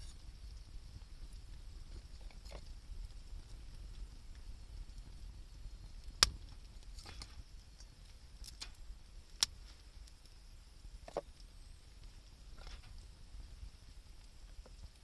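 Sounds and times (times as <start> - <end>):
low steady rumble: 0.0 - 15.0
wood fire crackling pops: 0.0 - 15.0.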